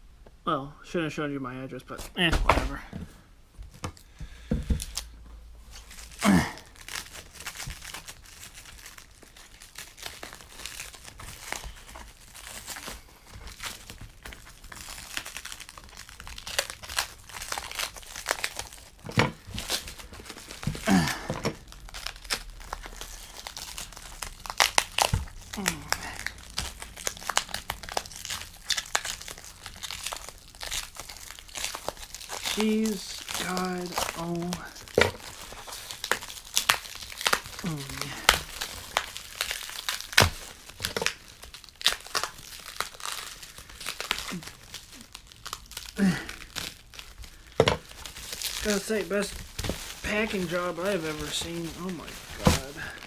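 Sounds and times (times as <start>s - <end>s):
plastic wrap crinkling and tearing: 3.7s - 53.0s.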